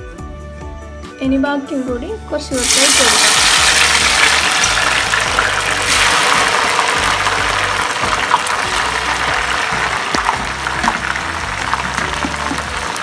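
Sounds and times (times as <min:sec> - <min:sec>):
food deep-frying in oil: 0:02.6 - 0:13.0.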